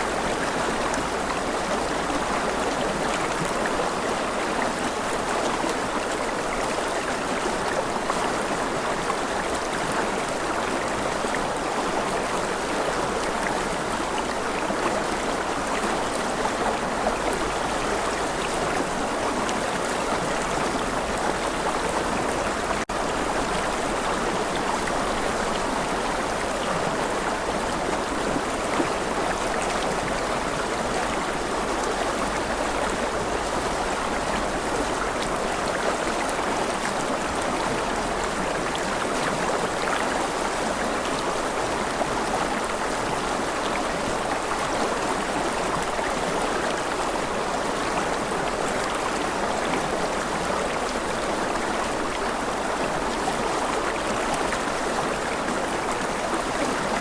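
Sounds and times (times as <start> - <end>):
water flowing over rocks: 0.0 - 57.0.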